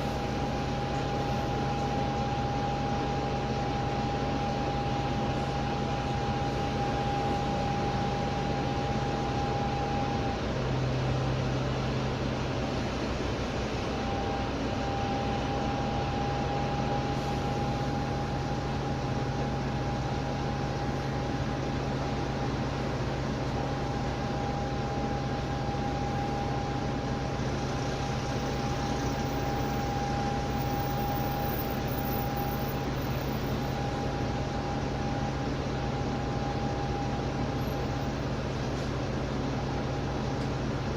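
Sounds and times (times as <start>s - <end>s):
diesel bus engine drone: 0.0s - 40.9s.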